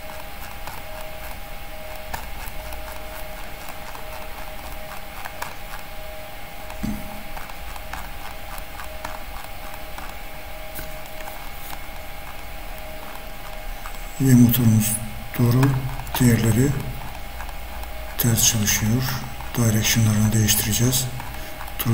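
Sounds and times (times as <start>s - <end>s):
mouse scroll wheel clicking: 0.0s - 5.9s, 6.6s - 14.6s, 15.4s - 21.9s
electrical hum: 0.0s - 21.9s.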